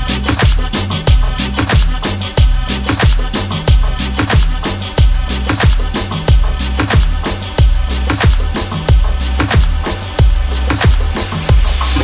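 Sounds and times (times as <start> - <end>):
kick drum with deep bass: 0.0 - 12.0
latin pop dance music: 0.0 - 12.0.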